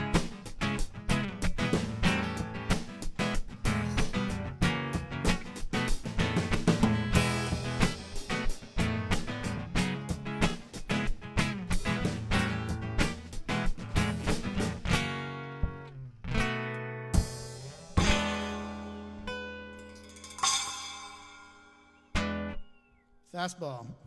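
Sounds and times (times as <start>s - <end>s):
drums: 0.0s - 22.8s
acoustic guitar strumming: 0.0s - 23.0s.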